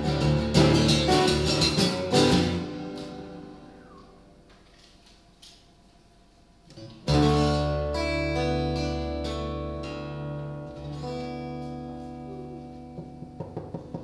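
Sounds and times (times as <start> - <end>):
guitar notes picked: 0.0 - 4.5, 6.7 - 14.0.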